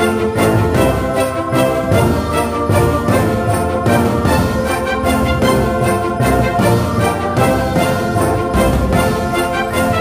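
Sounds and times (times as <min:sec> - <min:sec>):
orchestral music with brass: 0:00.0 - 0:10.0.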